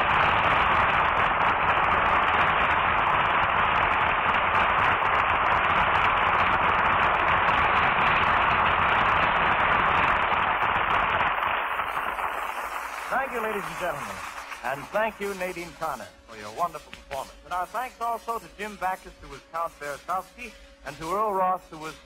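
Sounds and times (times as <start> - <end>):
audience applauding: 0.0 - 20.4.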